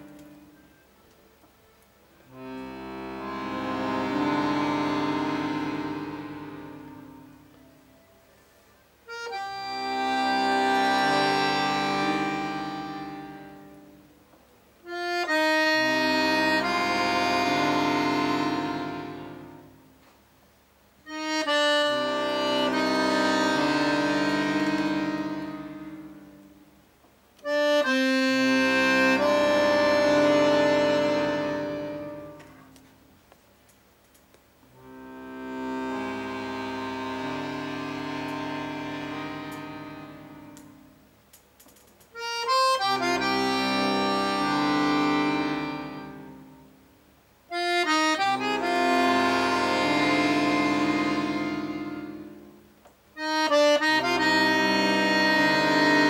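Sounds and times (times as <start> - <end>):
button accordion playing chords: 0.0 - 1.0, 2.2 - 8.2, 9.0 - 14.2, 14.8 - 20.0, 21.0 - 33.1, 34.7 - 41.2, 42.1 - 56.0.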